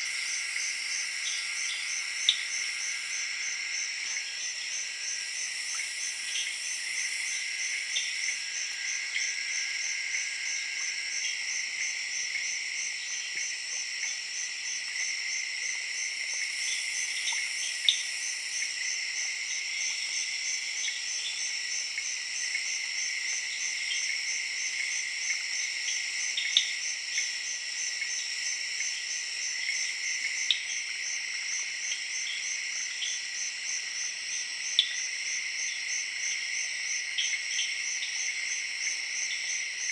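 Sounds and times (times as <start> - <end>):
crickets and frogs trilling: 0.0 - 39.9.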